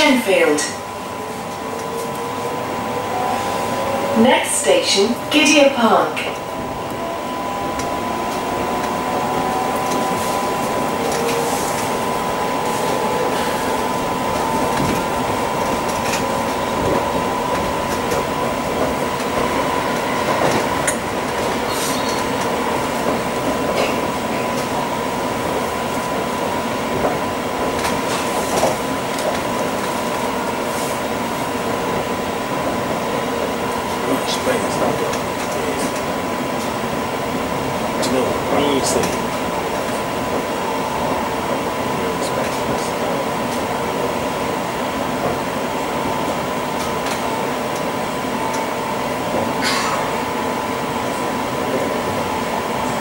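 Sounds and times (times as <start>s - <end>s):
electric train rolling noise: 0.0s - 53.0s
train whine: 0.0s - 53.0s.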